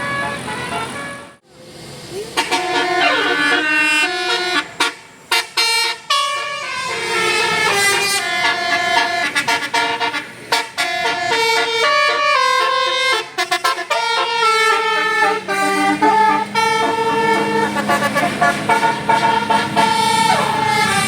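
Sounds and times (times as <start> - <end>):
musical bus horn playing a tune: 0.0 - 1.4, 2.3 - 21.0.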